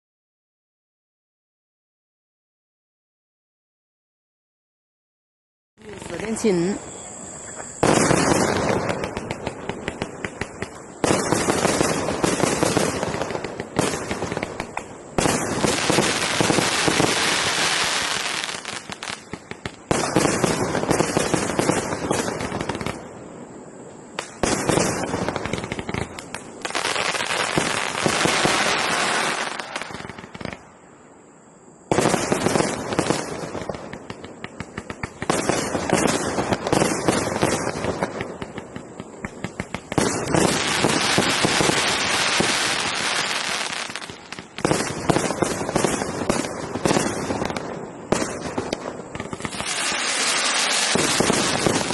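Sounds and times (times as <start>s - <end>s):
firework bangs: 7.6s - 23.2s, 24.2s - 30.8s, 31.8s - 51.9s.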